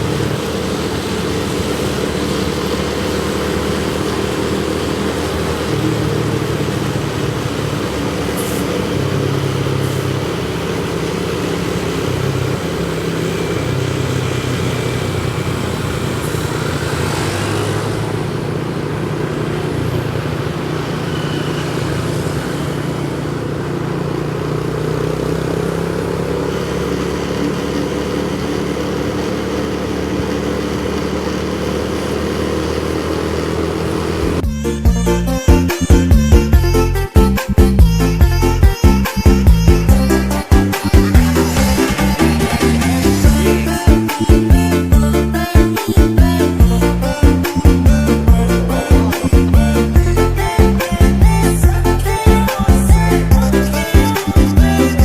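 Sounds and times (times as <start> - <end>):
traffic noise: 0.0 - 55.0
vehicle engine rumbling: 0.0 - 55.0.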